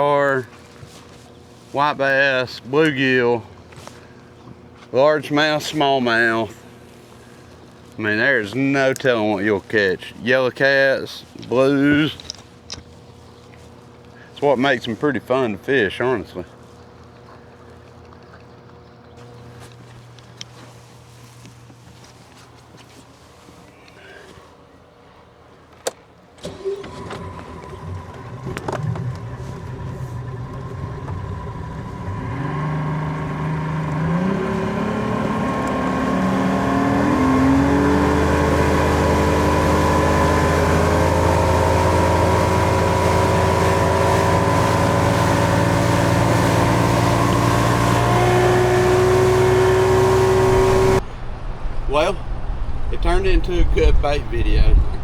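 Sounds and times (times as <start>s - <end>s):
outboard motor running: 0.0s - 25.1s, 26.2s - 53.9s.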